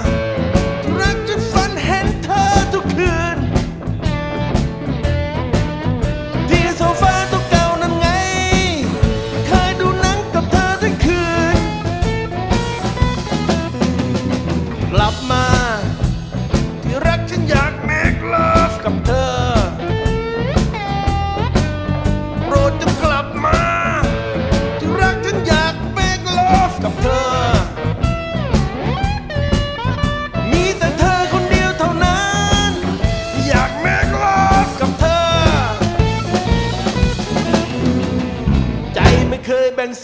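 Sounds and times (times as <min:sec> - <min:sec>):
electric slide guitar: 0:00.0 - 0:39.6
bass and drums: 0:00.0 - 0:39.7.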